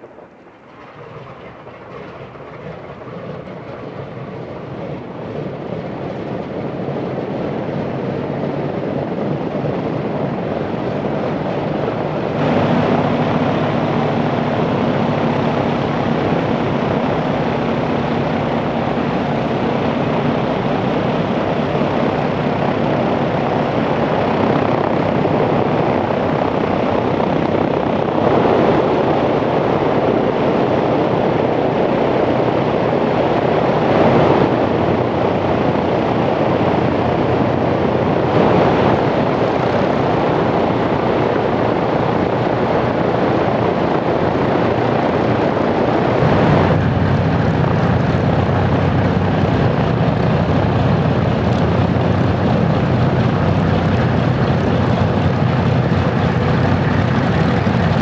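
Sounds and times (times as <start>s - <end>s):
radial aircraft engines droning: 0.0s - 58.0s.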